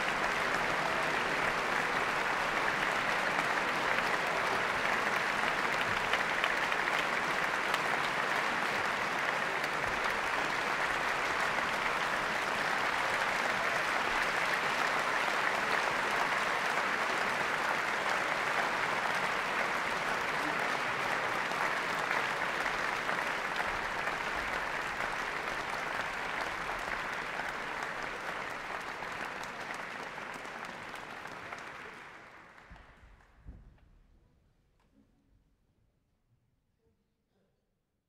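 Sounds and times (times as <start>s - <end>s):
audience applauding: 0.0s - 33.4s.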